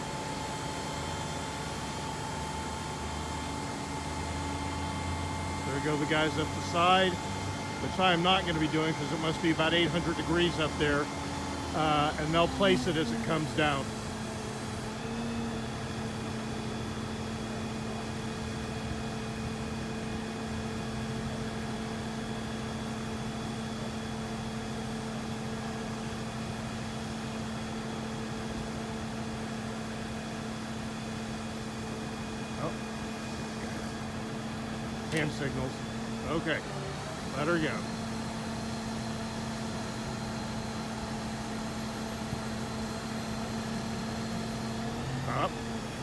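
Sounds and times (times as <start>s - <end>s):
crane engine droning: 0.0s - 46.0s.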